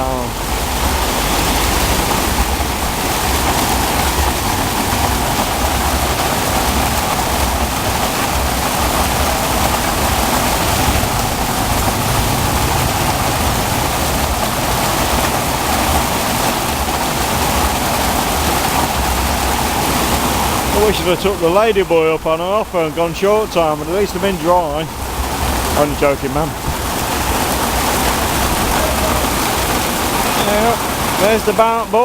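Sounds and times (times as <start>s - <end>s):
heavy rain pouring: 0.0s - 32.0s.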